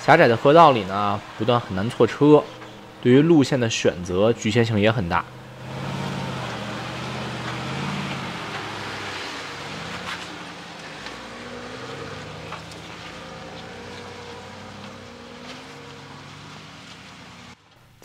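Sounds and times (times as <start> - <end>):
tyres on rock: 0.0 - 17.5
off-road engines crawling: 0.0 - 17.8.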